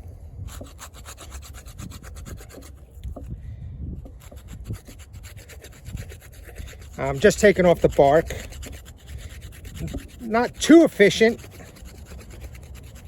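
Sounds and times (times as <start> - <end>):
knife scraping bark off stick: 0.4 - 3.4, 4.1 - 13.0.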